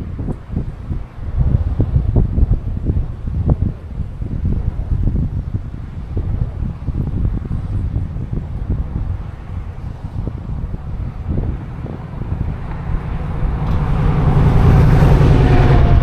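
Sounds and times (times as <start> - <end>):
road vehicle approaching: 0.0 - 16.0
wind buffeting microphone: 0.0 - 16.0.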